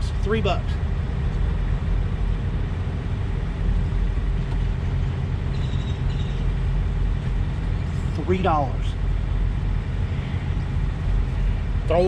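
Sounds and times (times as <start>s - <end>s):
engine idling: 0.0s - 12.0s
even hum: 0.0s - 12.0s.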